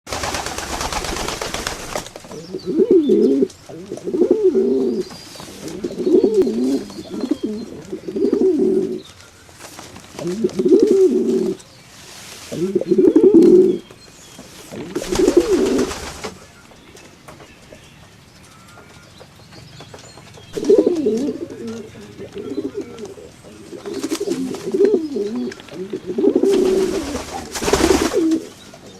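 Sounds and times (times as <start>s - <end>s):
pigeons cooing: 0.1s - 16.4s, 20.5s - 28.9s.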